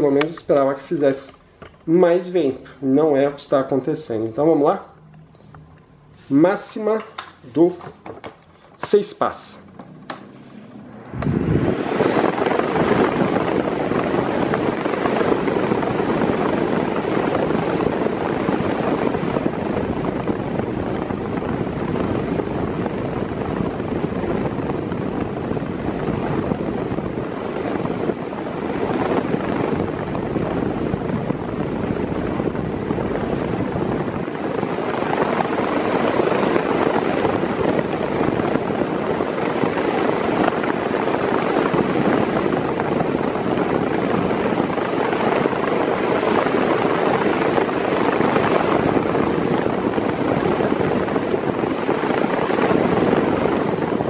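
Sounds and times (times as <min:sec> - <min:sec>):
electric fan blowing air: 0:00.0 - 0:54.0.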